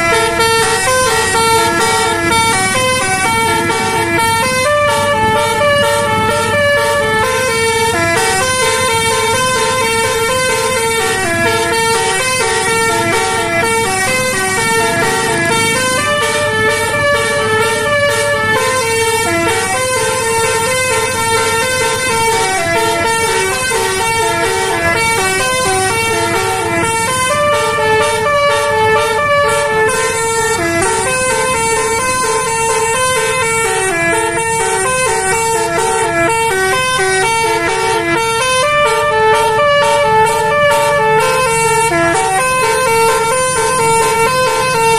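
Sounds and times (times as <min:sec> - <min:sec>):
air horns playing a tune: 0:00.0 - 0:44.9.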